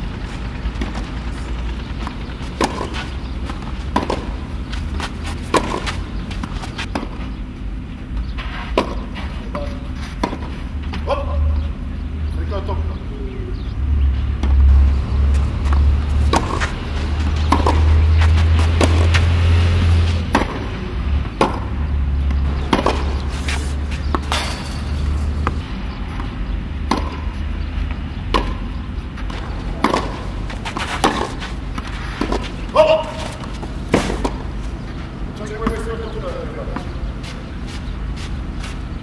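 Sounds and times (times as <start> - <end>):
racquets striking tennis ball: 0.1 - 11.1, 14.3 - 39.0
tennis balls bouncing: 0.1 - 11.2, 14.2 - 39.0.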